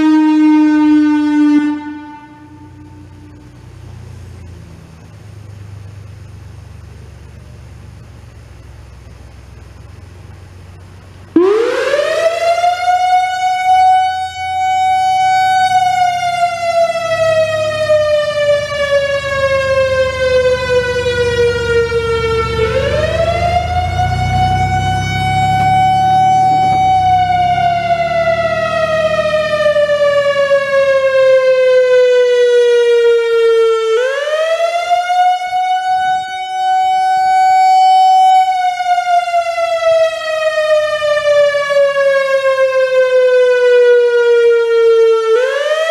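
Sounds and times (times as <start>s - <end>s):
electronic warning siren: 0.0s - 45.9s.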